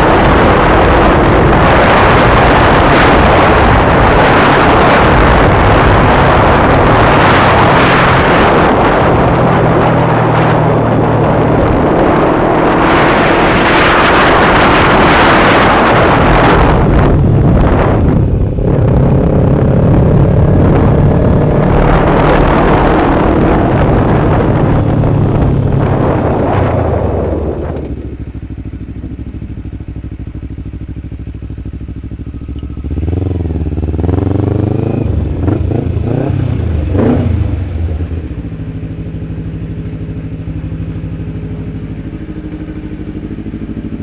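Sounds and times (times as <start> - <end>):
wind rush over microphone: 0.0 - 31.2, 32.8 - 39.7
motorcycle engine running: 0.0 - 44.0.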